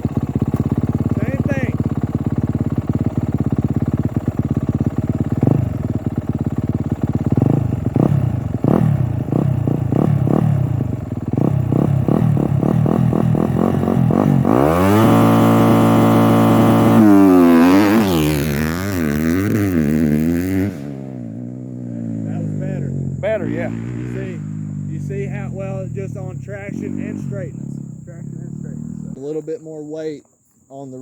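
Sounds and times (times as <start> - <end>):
motocross bike engine revving: 0.0 - 29.7.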